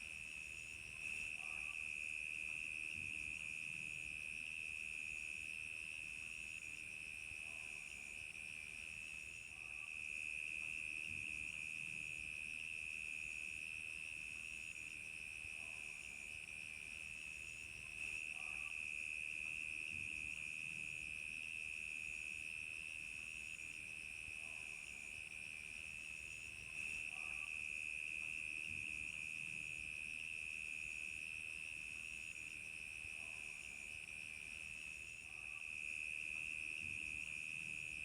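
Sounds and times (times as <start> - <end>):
high cricket chirp: 0.2 - 38.0.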